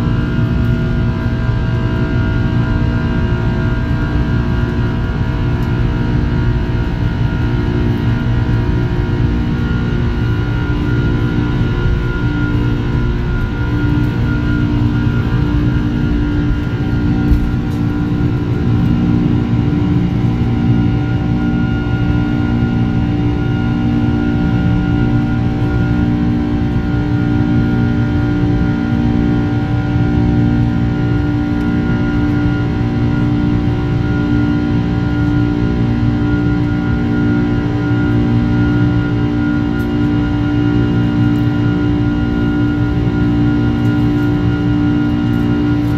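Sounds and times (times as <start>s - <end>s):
jet engines droning in cabin: 0.0s - 45.9s.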